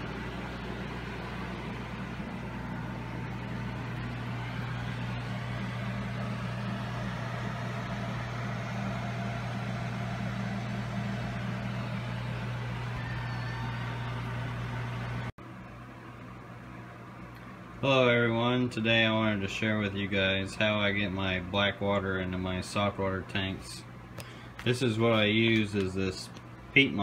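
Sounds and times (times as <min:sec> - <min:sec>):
aquarium pumps humming and hissing: 0:00.0 - 0:27.0.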